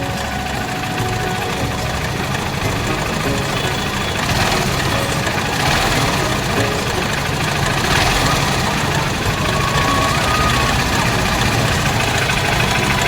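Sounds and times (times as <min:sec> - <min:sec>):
motorcycle engine idling with rattle: 0:00.0 - 0:13.0.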